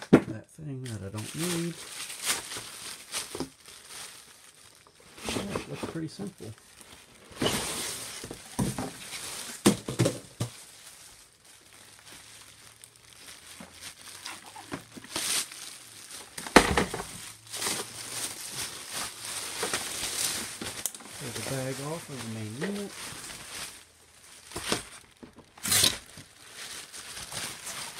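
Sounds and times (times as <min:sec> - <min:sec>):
plastic bags crinkling: 0:00.6 - 0:27.9.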